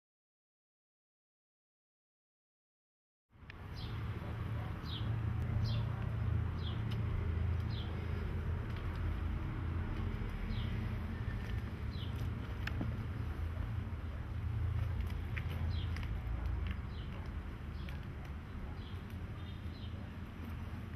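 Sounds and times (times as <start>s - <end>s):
steady low rumble: 3.3s - 20.9s.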